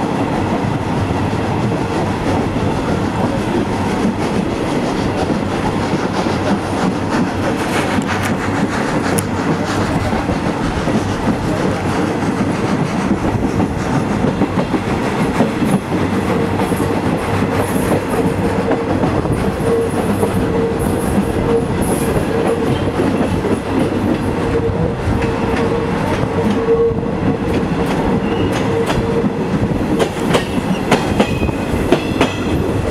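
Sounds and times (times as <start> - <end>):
train wheels clacking on rails: 0.0 - 32.9.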